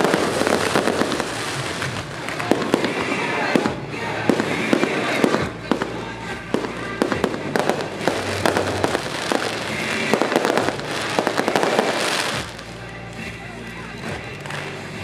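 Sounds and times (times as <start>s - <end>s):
firecrackers banging and crackling: 0.0s - 15.0s.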